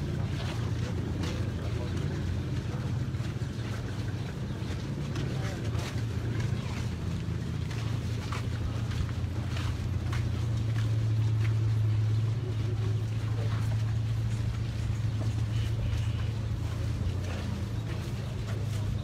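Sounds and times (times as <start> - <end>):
van engine humming: 0.0 - 19.0.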